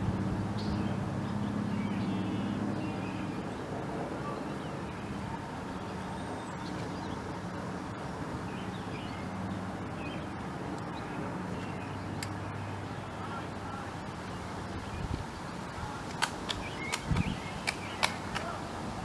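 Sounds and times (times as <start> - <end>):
distant road traffic hum: 0.0 - 19.0.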